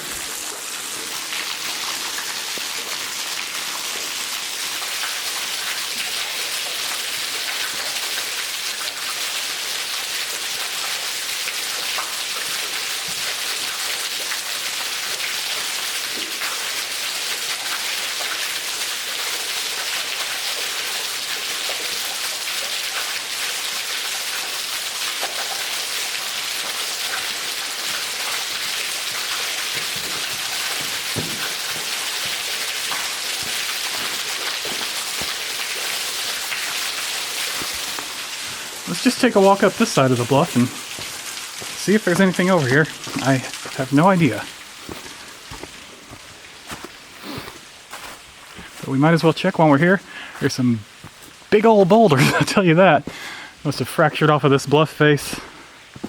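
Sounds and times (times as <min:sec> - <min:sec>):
water trickling off rock: 0:00.0 - 0:52.8
waterfall splashing into pool: 0:00.0 - 0:55.2.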